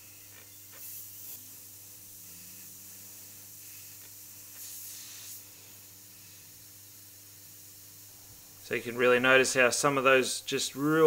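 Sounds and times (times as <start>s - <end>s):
airbrush air hiss: 0.0s - 11.0s
steady low hum: 0.0s - 11.0s.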